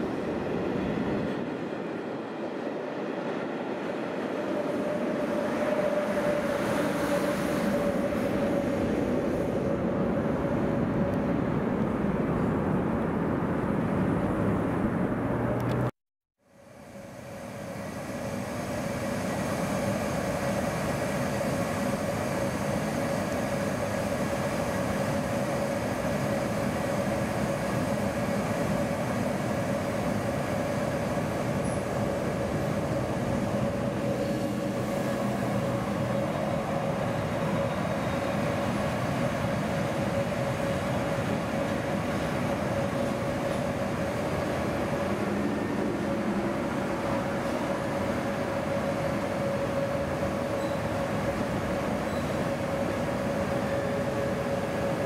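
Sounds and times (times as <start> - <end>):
electric locomotive humming: 0.0 - 15.9, 16.6 - 55.0.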